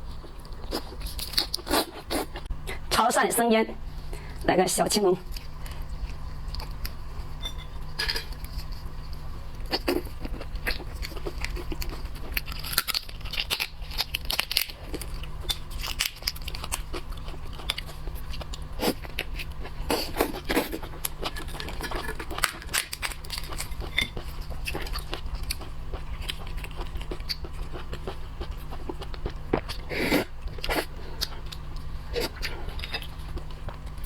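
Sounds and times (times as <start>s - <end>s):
crunching and chewing: 0.0s - 2.8s, 5.2s - 34.0s
low steady hum: 0.0s - 34.0s.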